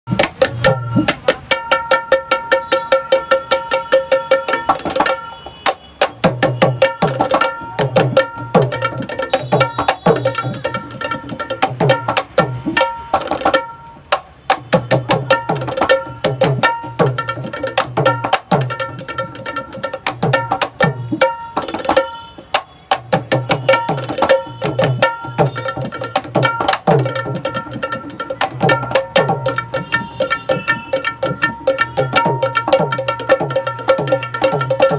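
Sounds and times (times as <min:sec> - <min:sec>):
hand drum played rhythmically: 0:00.1 - 0:34.9.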